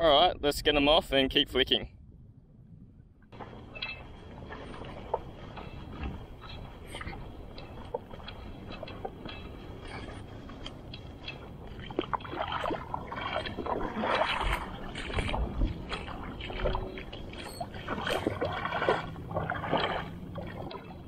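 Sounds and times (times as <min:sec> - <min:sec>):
shallow water sloshing and splashing: 0:03.2 - 0:21.0.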